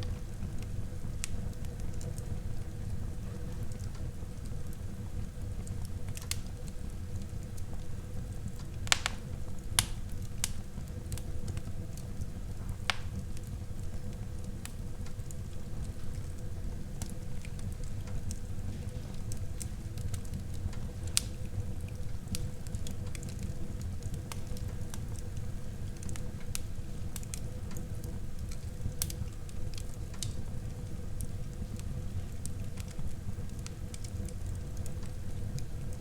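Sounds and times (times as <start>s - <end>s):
fire crackling and popping: 0.0s - 36.0s
low rumble of flames: 0.0s - 36.0s.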